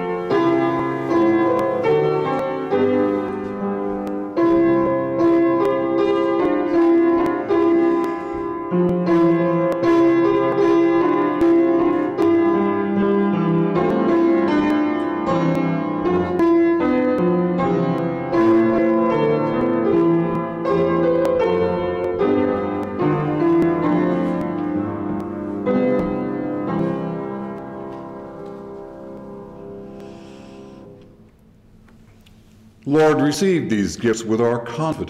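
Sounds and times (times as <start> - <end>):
instrumental church music: 0.0 - 35.0.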